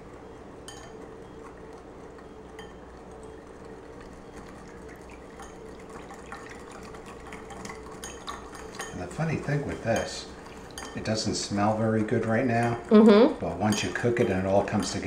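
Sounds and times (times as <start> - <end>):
whisk sloshing liquid: 0.0 - 15.0
whisk wires ticking on bowl: 0.2 - 15.0.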